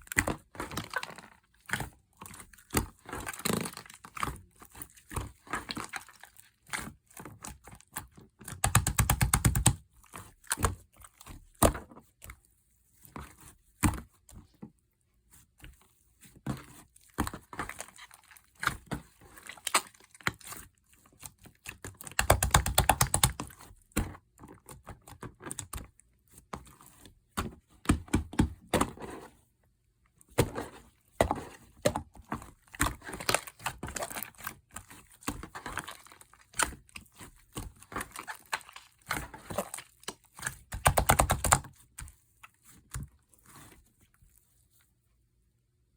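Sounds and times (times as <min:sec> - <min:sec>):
hands squishing slime: 0:00.0 - 0:14.6, 0:15.3 - 0:28.9, 0:30.3 - 0:44.8.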